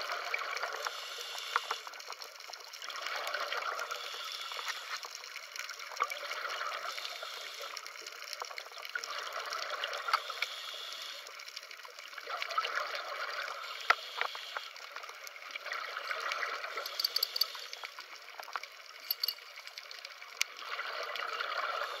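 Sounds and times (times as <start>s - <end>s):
faint clicks and crackles: 0.0s - 22.0s.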